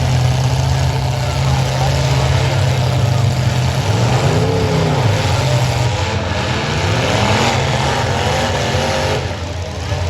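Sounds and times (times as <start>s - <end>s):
car engine revving: 0.0s - 10.0s
roar of several engines: 0.0s - 10.0s.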